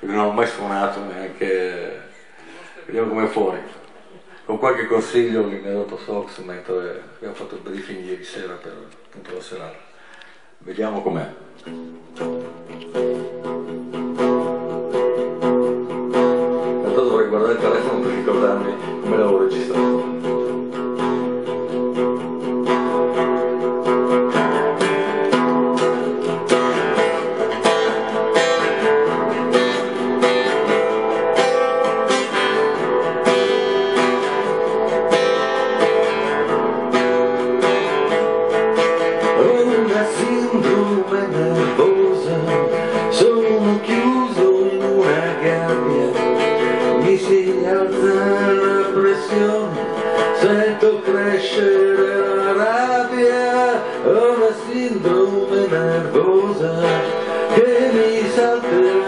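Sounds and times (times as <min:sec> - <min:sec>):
acoustic guitar strumming chords: 0:11.2 - 0:59.0.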